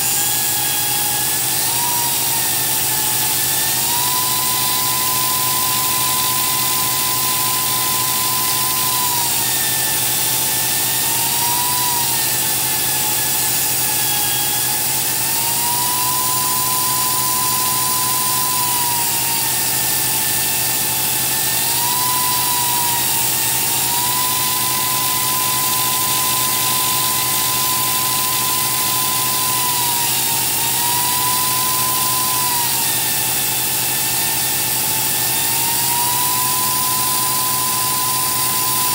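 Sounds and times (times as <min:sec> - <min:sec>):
grinder whining on steel: 0:00.0 - 0:38.9.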